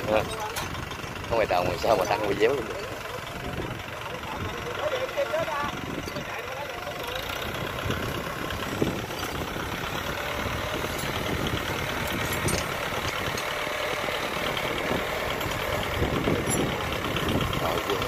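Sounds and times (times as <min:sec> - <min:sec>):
tractor diesel engine running: 0:00.0 - 0:18.0
tractor driving through straw: 0:00.0 - 0:18.0.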